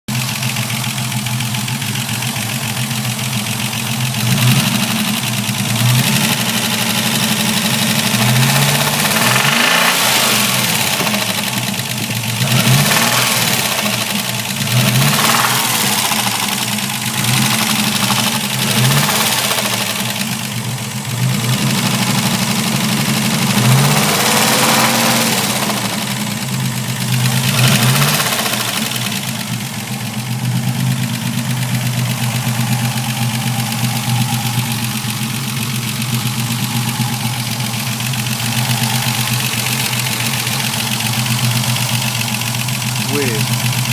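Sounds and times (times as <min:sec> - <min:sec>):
car engine revving: 0:00.2 - 0:43.9.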